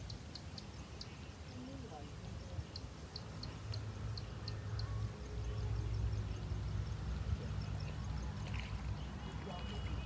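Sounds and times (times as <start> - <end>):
bird chirping: 0.0 - 10.0
low outdoor rumble: 0.7 - 10.0.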